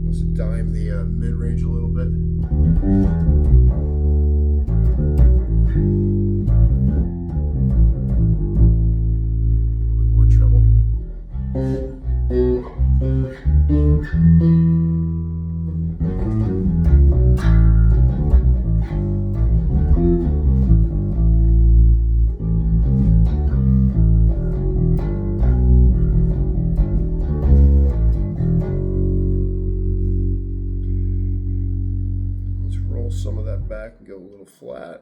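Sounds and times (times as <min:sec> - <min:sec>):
bass guitar plucked notes: 0:00.0 - 0:34.2.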